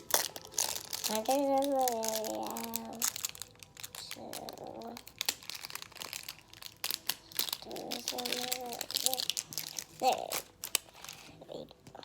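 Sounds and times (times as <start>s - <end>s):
packaging crinkling and tearing: 0.0s - 11.4s.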